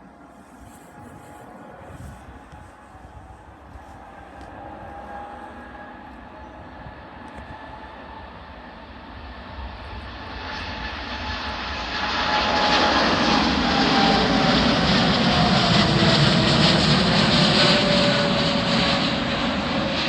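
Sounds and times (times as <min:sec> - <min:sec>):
airliner engines roaring: 0:00.0 - 0:20.0.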